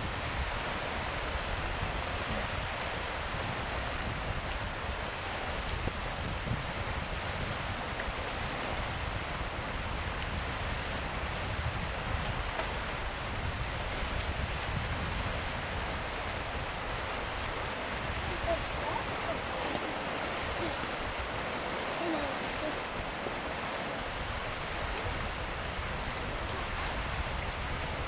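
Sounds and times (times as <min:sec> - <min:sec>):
wind: 0:00.0 - 0:28.0
waves breaking on rocks: 0:00.1 - 0:28.0.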